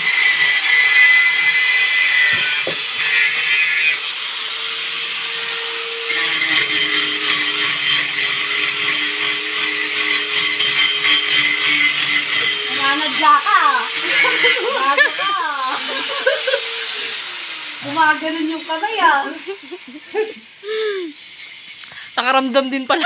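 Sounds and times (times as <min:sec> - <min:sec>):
angle grinder on steel: 0:00.0 - 0:23.0.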